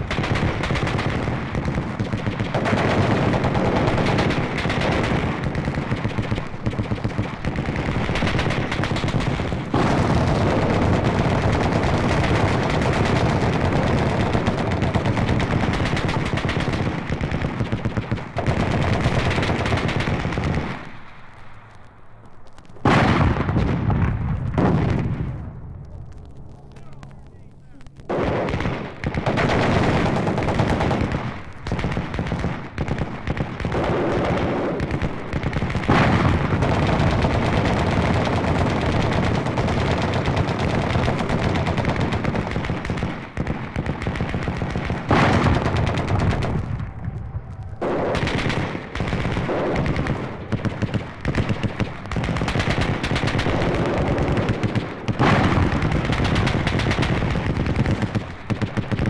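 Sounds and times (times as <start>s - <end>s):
machine-gun fire: 0.0s - 21.1s, 22.7s - 25.5s, 26.1s - 59.0s.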